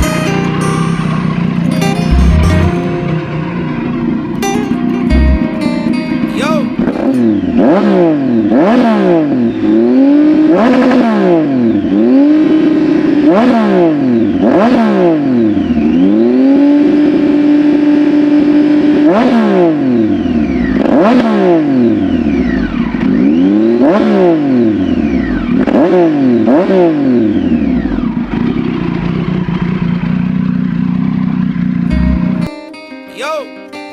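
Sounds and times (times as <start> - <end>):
motorcycle engine revving: 0.0 - 32.6.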